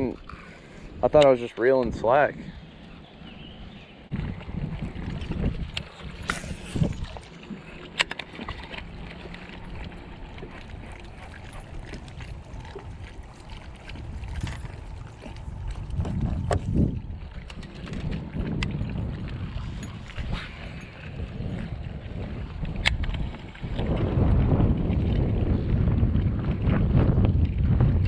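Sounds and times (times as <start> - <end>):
water sounds: 0.0 - 28.0
wind rumbling on microphone: 0.0 - 28.0.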